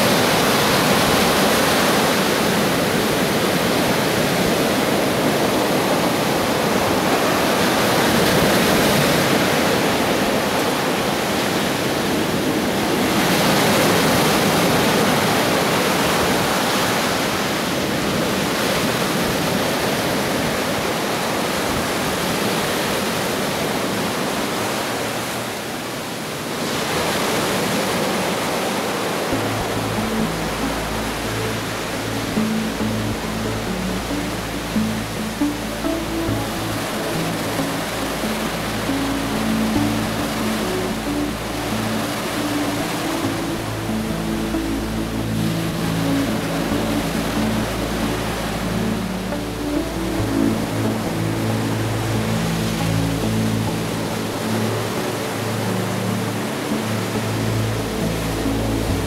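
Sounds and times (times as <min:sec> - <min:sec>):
surf washing over sand: 0:00.0 - 0:59.0.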